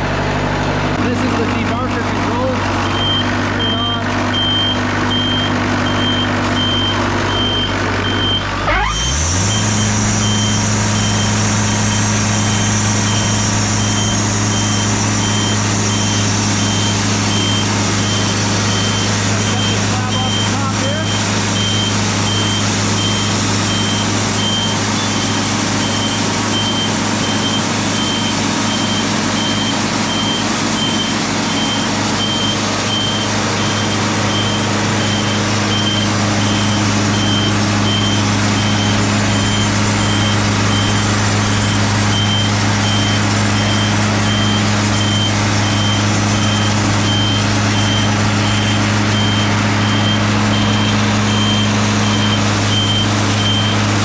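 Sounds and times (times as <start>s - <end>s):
sawmill machinery droning: 0.0s - 54.0s
high electronic beep: 2.8s - 53.8s.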